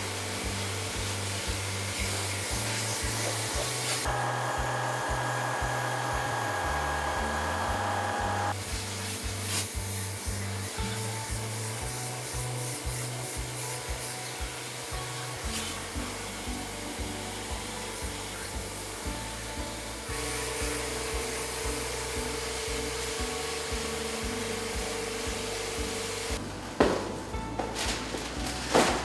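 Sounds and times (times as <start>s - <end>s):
machine whining and hissing: 0.0s - 8.8s, 10.4s - 26.4s
background music with steady beat: 0.0s - 29.0s.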